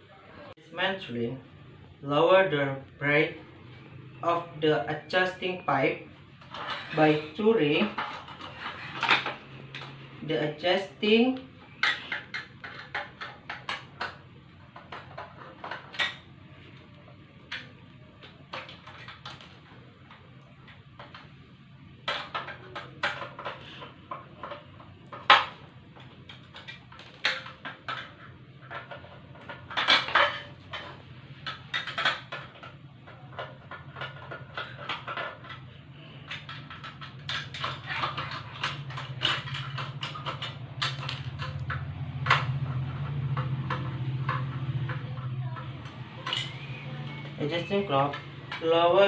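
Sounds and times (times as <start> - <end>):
fan parts clicking and knocking: 3.9 - 49.0.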